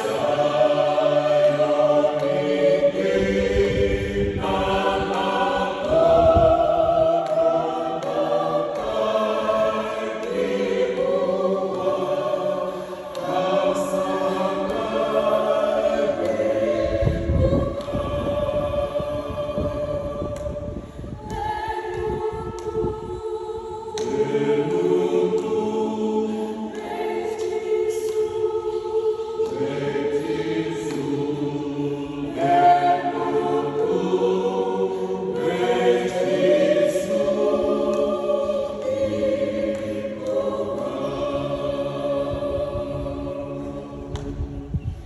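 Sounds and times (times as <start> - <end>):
choir singing a hymn: 0.0 - 45.0.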